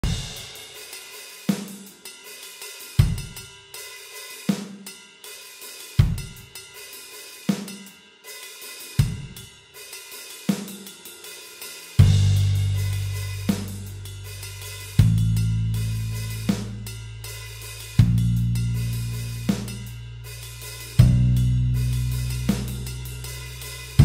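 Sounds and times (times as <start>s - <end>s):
slow drum beat: 0.0s - 24.0s.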